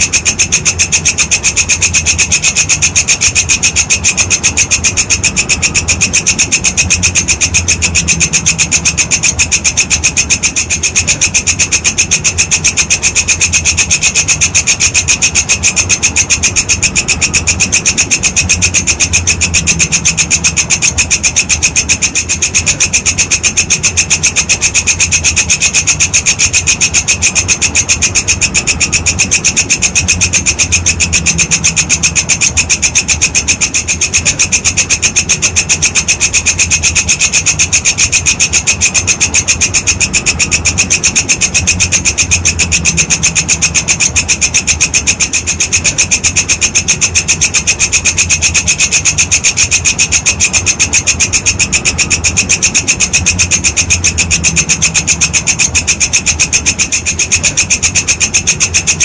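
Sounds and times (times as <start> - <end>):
insect shrill rasping pulses: 0.0 - 59.0.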